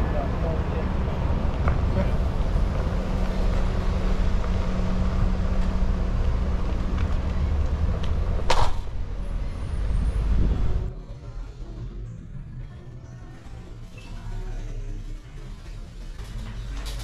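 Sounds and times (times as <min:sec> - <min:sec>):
low engine hum: 0:00.0 - 0:16.8
road traffic rumble: 0:00.0 - 0:17.0.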